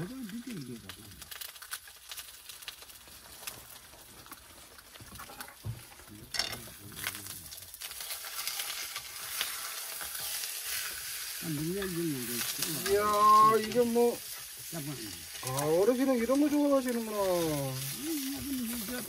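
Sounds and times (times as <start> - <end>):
fat crackling pops: 0.0 - 19.0
pork fat sizzling in a pan: 0.0 - 19.0.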